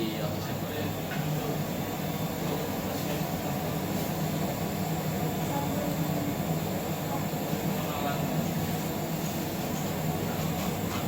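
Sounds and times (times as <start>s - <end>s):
laboratory equipment humming: 0.0s - 11.0s.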